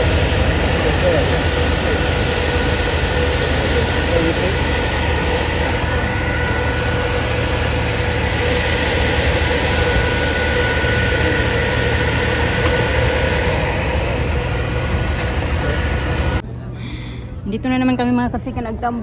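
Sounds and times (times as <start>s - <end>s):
loud engine drone with whine: 0.0s - 19.0s.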